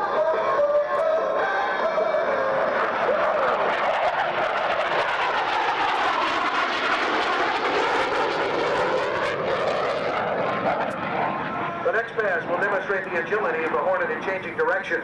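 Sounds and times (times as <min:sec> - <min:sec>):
fighter jet passing: 0:00.1 - 0:15.0.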